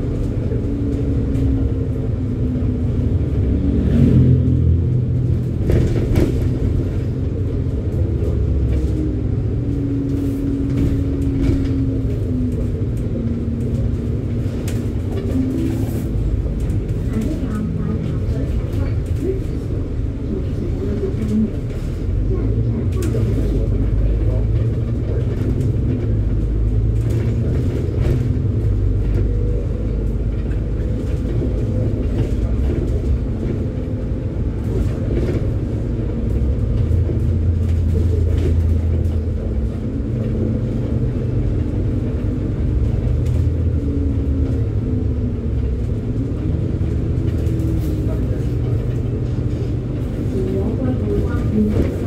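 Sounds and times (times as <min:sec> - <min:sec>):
bus engine running: 0:00.0 - 0:52.0
road and tyre noise: 0:00.0 - 0:52.0.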